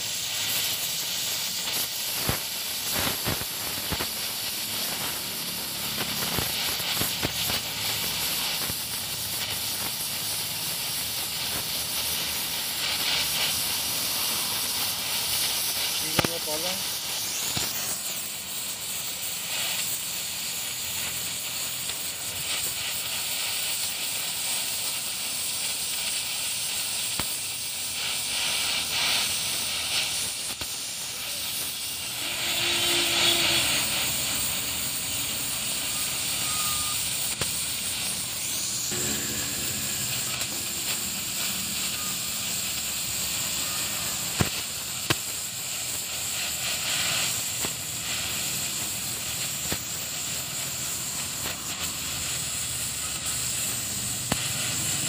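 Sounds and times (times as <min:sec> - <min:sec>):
welding torch flame hissing: 0:00.0 - 0:55.0.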